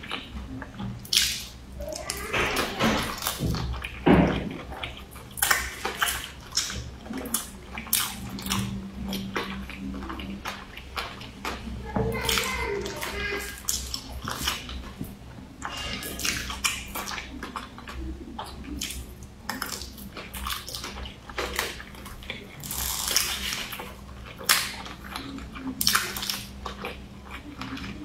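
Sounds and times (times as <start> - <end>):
steady low hum: 0.0 - 28.0
wet chewing mouth sounds: 0.0 - 28.0.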